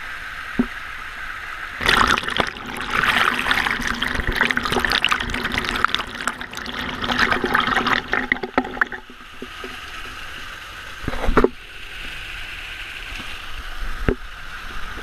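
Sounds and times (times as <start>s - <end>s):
waterfall splashing: 1.8s - 14.0s.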